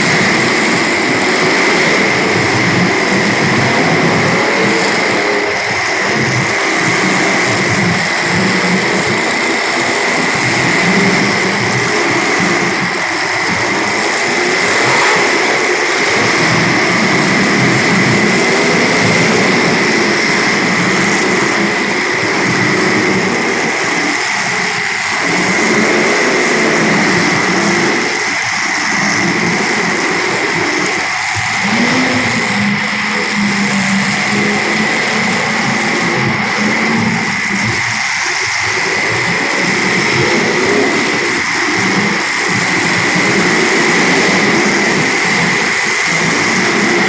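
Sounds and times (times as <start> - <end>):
race car engines buzzing: 0.0 - 47.0.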